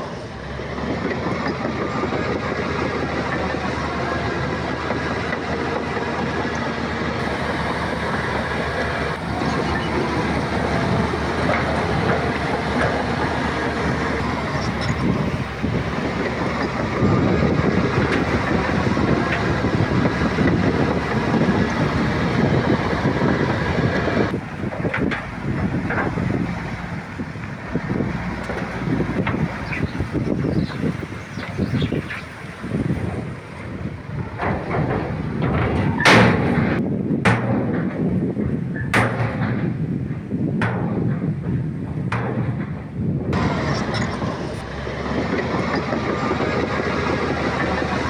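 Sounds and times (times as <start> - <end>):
diesel engine under load: 0.0 - 48.0
steel tracks clattering: 0.0 - 48.0.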